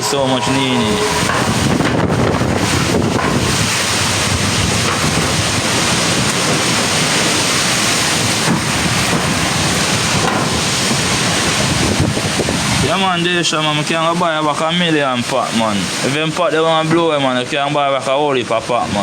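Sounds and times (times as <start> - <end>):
strong wind buffeting microphone: 0.0 - 17.6
heavy rain: 0.0 - 19.0.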